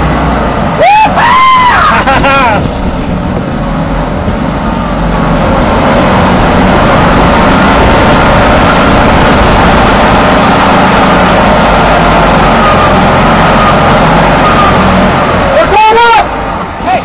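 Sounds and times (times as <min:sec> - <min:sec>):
vehicle engine over rough ground: 0:00.0 - 0:17.0.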